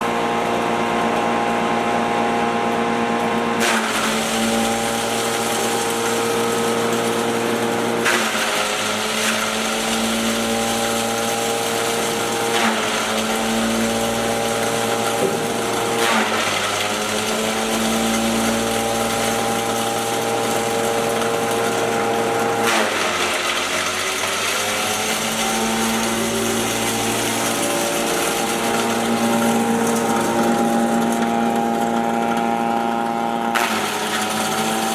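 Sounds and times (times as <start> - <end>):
grinding mill motor hum: 0.0 - 34.9.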